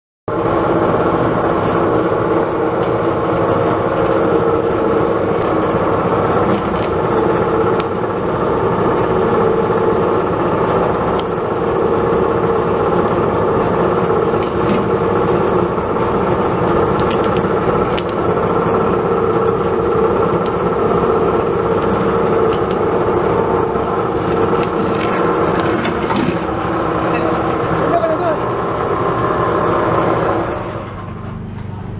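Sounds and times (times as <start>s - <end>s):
machine cutting coconut shell: 0.4s - 31.4s.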